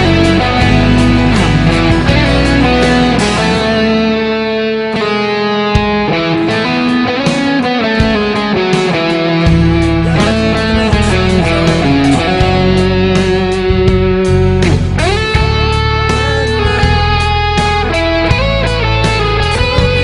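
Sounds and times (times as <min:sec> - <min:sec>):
electric guitar music with beat: 0:00.0 - 0:20.0.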